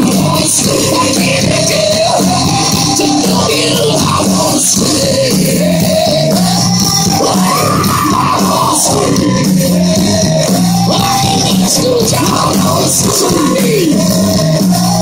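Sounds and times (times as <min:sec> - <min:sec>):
live hard rock band: 0:00.0 - 0:15.0.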